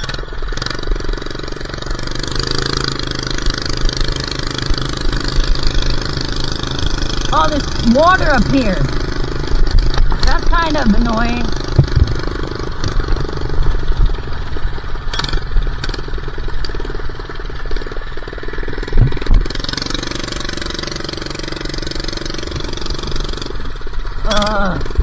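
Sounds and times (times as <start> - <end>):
minibike engine running: 0.0 - 25.0.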